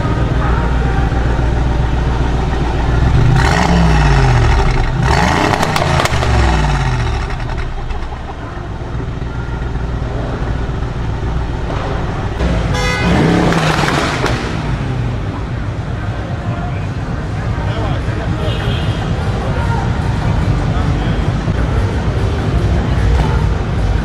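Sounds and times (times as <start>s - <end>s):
car engine revving with loud exhaust: 0.0s - 24.0s
exhaust crackle: 0.0s - 24.0s.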